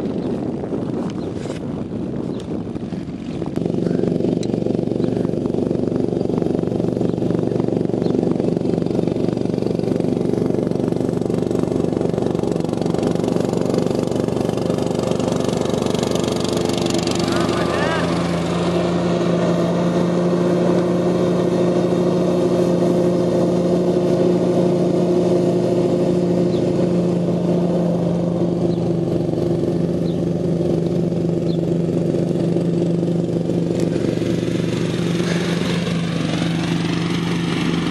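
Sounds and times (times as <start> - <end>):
lawn mower engine running: 0.0 - 37.9.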